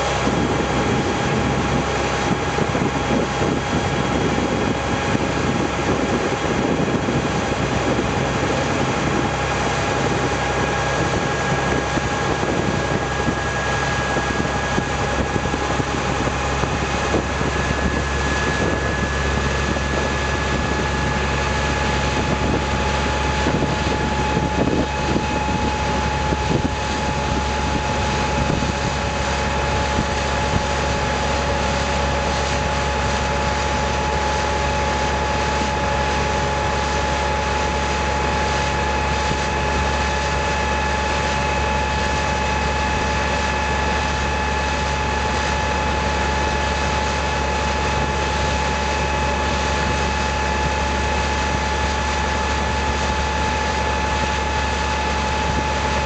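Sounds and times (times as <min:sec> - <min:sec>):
boat engine droning with whine: 0:00.0 - 0:56.0.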